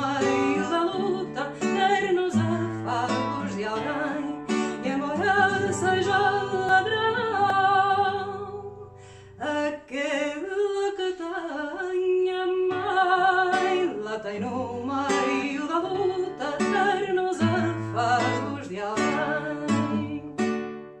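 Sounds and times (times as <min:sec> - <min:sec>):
person singing: 0:00.0 - 0:20.6
acoustic guitar: 0:00.0 - 0:21.0.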